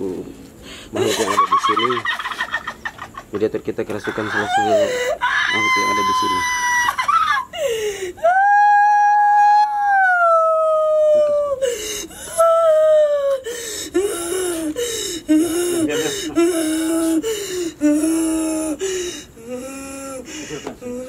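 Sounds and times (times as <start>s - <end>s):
woman wailing and sobbing: 4.1s - 21.0s.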